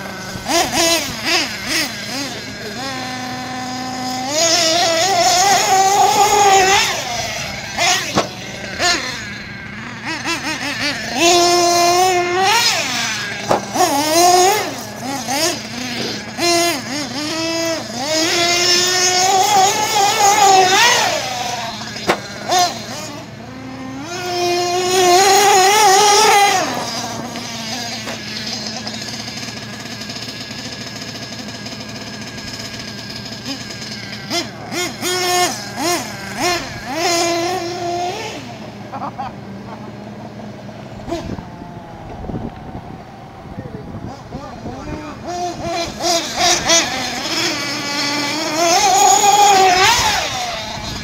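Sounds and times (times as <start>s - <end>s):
nitro engine revving and idling: 0.0s - 51.0s.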